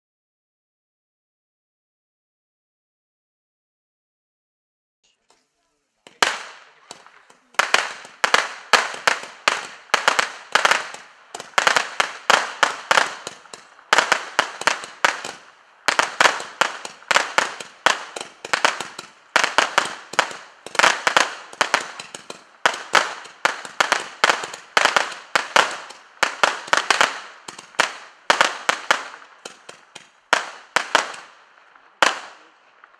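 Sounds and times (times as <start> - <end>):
firework pops: 6.0 - 32.9.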